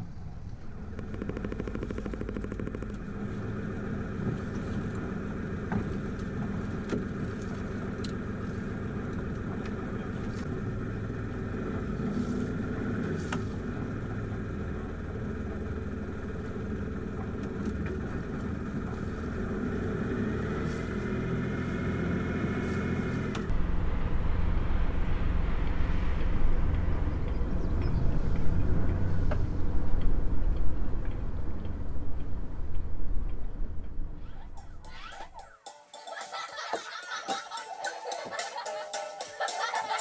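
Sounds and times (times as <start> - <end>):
boat engine running at low revs: 0.0 - 35.4.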